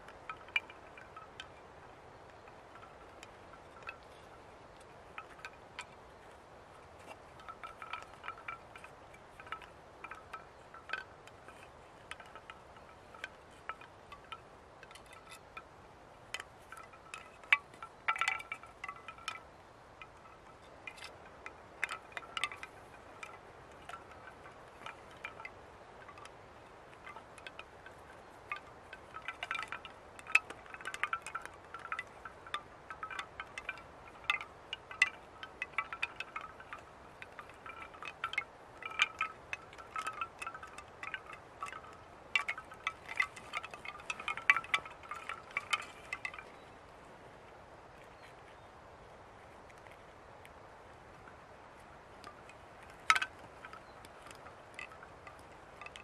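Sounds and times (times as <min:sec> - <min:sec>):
bamboo wind chimes clacking: 0:00.0 - 0:56.0.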